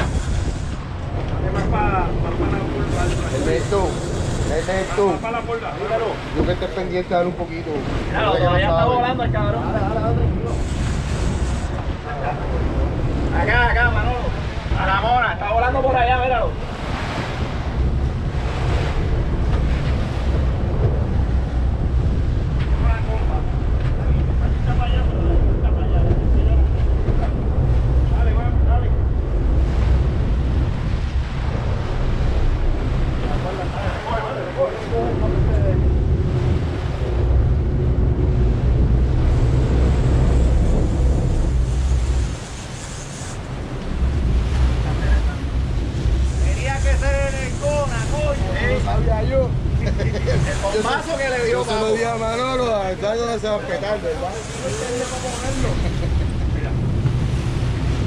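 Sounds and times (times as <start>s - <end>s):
boat wake rushing: 0.0s - 58.0s
low rumble: 0.0s - 58.0s
wind on microphone: 0.0s - 58.0s.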